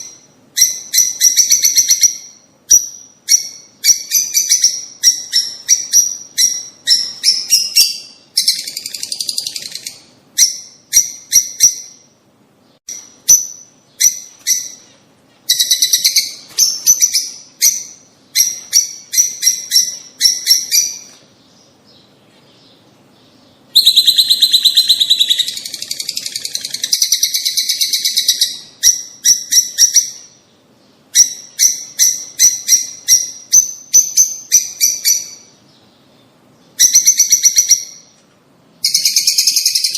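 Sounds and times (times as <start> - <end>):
rapid bird trills: 0.0 - 12.2, 12.8 - 38.1
small birds chirping: 0.0 - 39.9.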